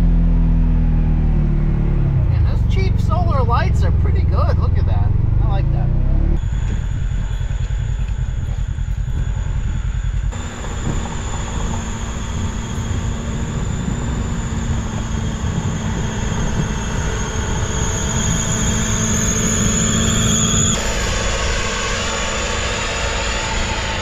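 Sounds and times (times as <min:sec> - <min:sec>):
high engine whine: 0:00.0 - 0:24.0
vehicle on snow tracks rumbling: 0:00.0 - 0:24.0.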